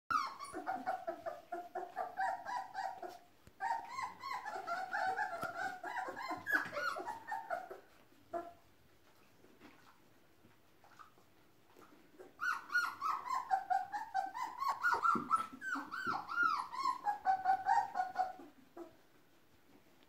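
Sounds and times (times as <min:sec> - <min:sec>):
puppies whining: 0:00.1 - 0:08.6, 0:10.9 - 0:19.2.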